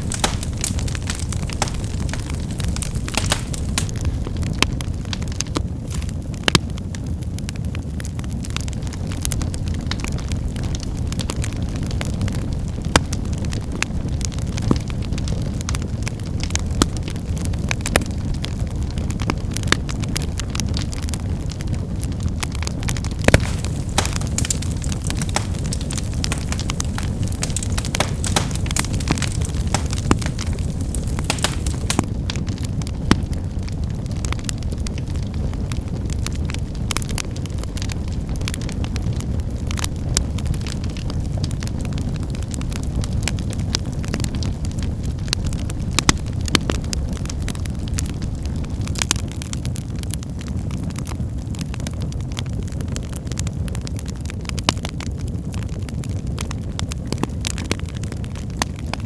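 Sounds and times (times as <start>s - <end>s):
firewood crackling and popping: 0.0s - 59.0s
wood fire rumbling: 0.0s - 59.0s.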